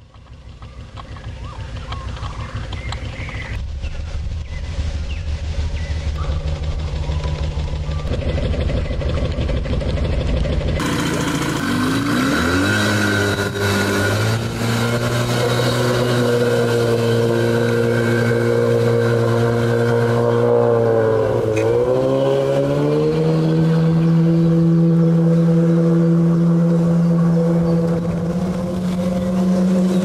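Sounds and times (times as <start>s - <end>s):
outboard engine revving: 0.0s - 30.0s.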